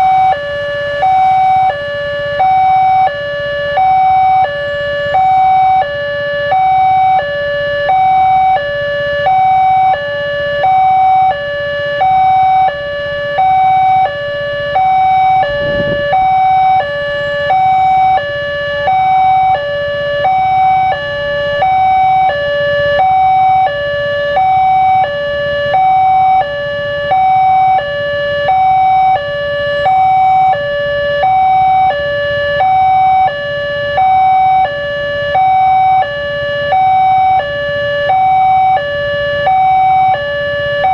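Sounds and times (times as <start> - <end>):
level crossing warning alarm: 0.0 - 40.9.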